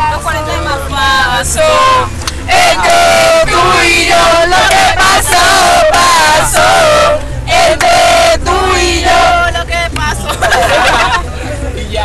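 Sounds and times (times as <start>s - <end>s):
group of people singing loudly: 0.0s - 11.1s.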